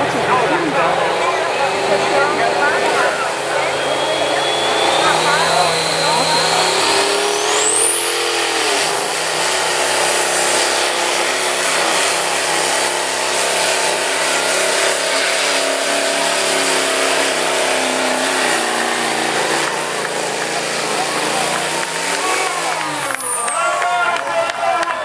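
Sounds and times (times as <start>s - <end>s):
high whine: 0.0s - 23.7s
engine running hard under load: 0.0s - 25.0s.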